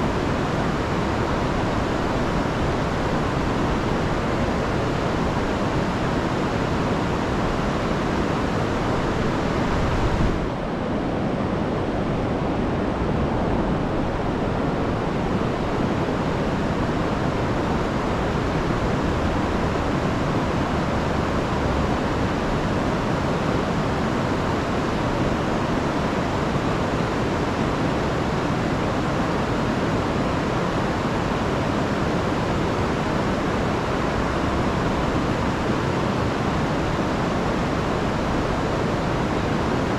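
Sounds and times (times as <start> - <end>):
river pouring over falls: 0.0 - 10.6, 12.6 - 39.9.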